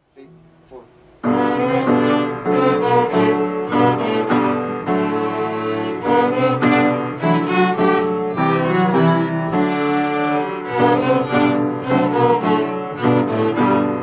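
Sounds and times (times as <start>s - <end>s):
violins cello and piano playing: 1.2s - 14.0s.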